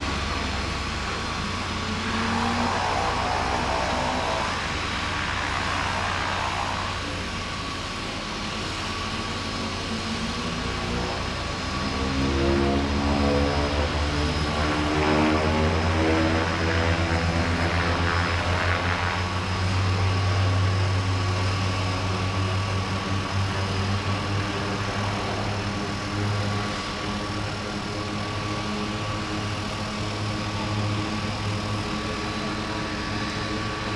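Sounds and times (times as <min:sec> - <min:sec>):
floatplane propeller engine: 0:00.0 - 0:33.9.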